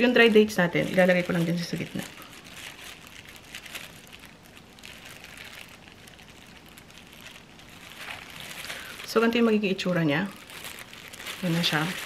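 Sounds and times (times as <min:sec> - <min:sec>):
plastic gloves crinkling: 0:00.0 - 0:12.0.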